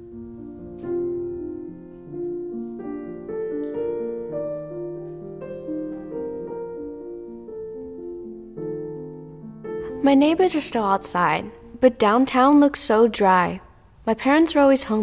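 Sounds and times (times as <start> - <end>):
slow piano melody: 0.0 - 12.5.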